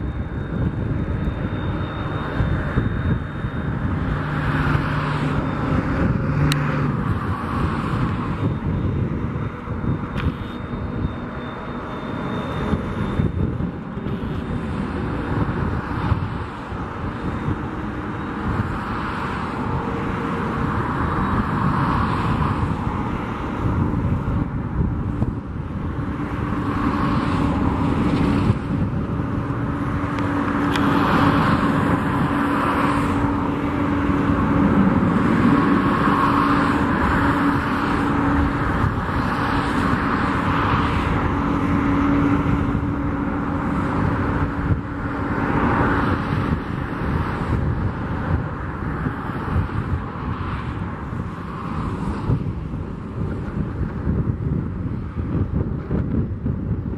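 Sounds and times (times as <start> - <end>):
jet engines idling: 0.0 - 51.5.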